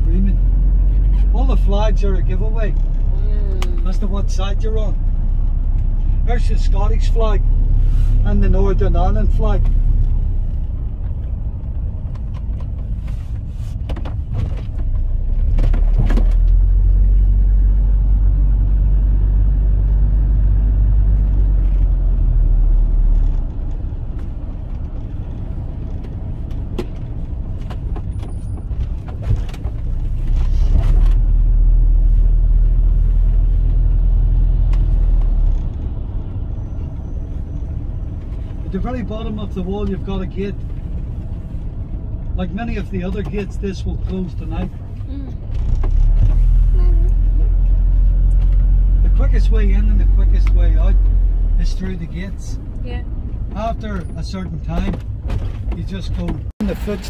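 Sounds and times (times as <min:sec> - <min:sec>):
taxi engine and tyres rumbling: 0:00.0 - 0:57.0.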